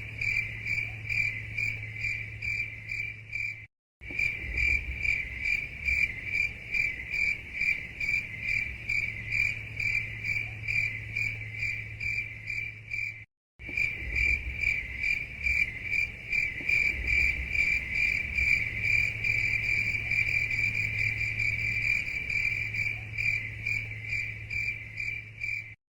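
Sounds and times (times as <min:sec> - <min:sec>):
crickets chirping: 0:00.0 - 0:25.8.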